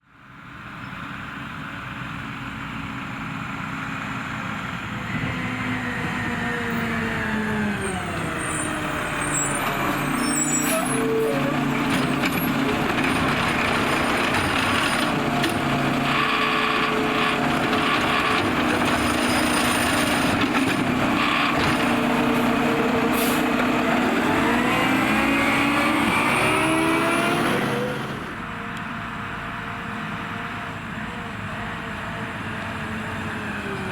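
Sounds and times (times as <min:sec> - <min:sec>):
garbage truck engine running: 0:00.3 - 0:33.9.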